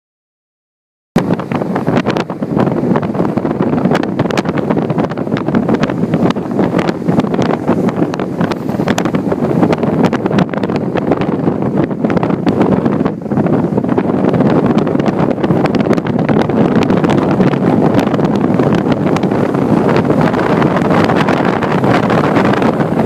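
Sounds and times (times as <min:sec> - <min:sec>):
strong wind on microphone: 0:01.2 - 0:23.0.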